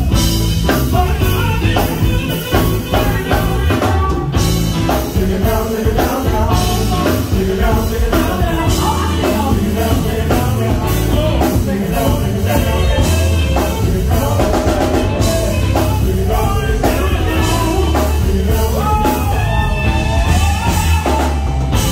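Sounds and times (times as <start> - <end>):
drum kit beat: 0.0 - 21.9
person singing: 0.7 - 21.9.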